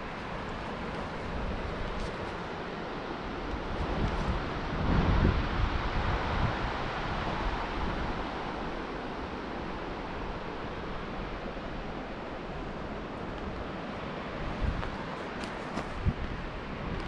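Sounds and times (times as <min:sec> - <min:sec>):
wind buffeting on microphone: 0:00.0 - 0:17.0.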